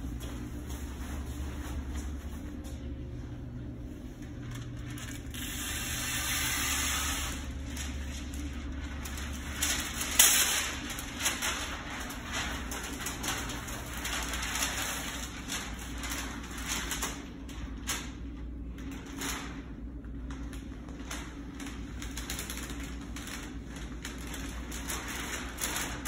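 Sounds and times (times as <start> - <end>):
paper and tape crinkling: 0.0 - 26.0
sharp paper crackle: 4.0 - 26.0.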